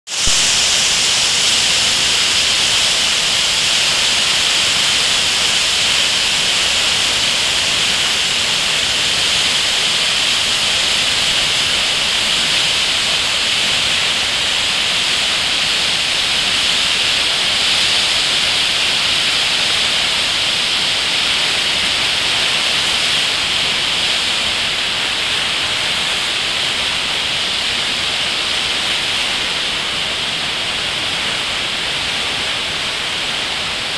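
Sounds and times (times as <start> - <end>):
flooded river rushing: 0.1 - 33.9.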